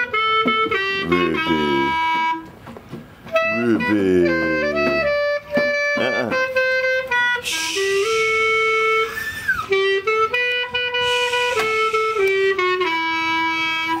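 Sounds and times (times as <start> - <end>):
clarinet melody: 0.0 - 2.6, 3.2 - 14.0.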